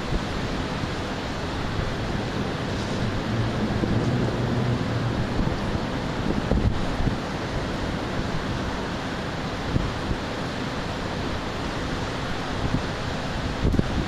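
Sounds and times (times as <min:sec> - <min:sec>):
wind buffeting microphone: 0:00.0 - 0:10.3, 0:12.3 - 0:14.0
wind and rain rushing: 0:00.0 - 0:14.0.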